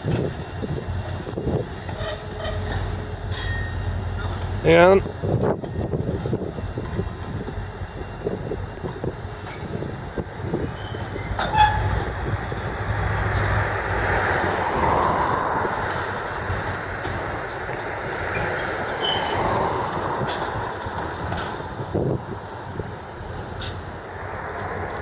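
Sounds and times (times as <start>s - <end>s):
train wagons rumbling: 0.0s - 25.0s.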